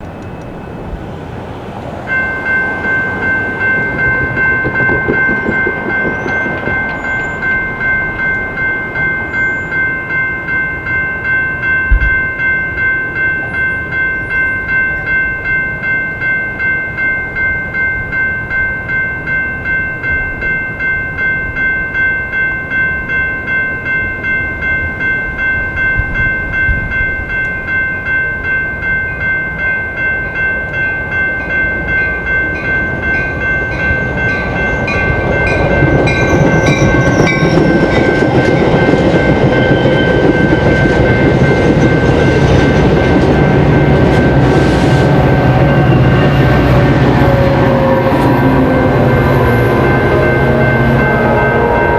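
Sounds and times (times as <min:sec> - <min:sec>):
railroad crossing bell ringing: 0:00.0 - 0:51.9.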